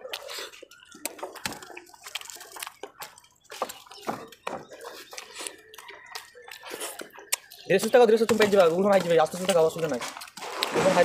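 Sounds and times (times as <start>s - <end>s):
chewing and lip smacking: 0.0s - 10.7s
hands working food on steel plates: 0.0s - 11.0s.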